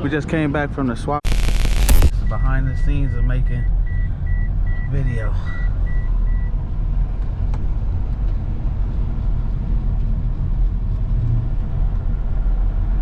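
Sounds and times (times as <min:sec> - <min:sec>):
vehicle rumble with road noise: 0:02.1 - 0:13.0.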